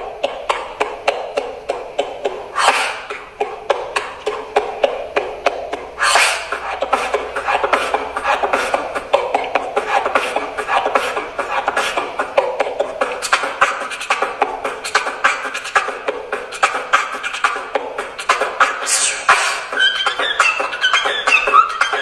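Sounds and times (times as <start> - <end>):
beatboxing: 0.0 - 22.0
hissing vocal sweeps: 2.0 - 22.0.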